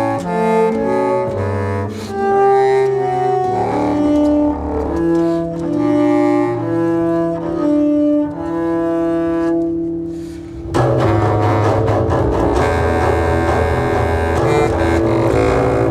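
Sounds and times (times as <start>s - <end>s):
bowed double bass: 0.0s - 15.9s
clarinet playing long notes: 0.0s - 15.9s.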